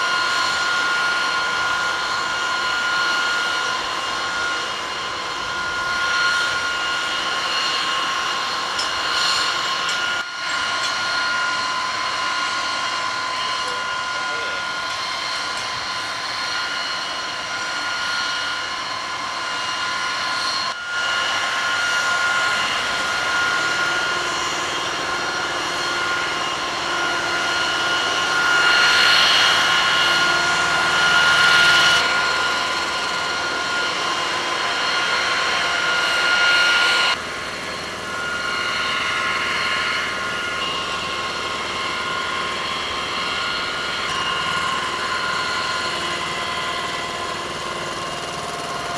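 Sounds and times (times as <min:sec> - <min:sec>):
jet turbine engine whine: 0:00.0 - 0:48.9.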